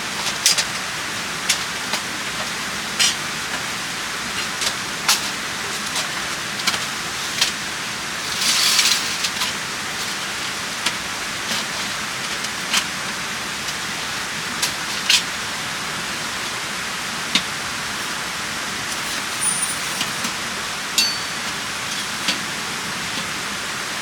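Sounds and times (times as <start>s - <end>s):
rain hissing: 0.0s - 23.9s.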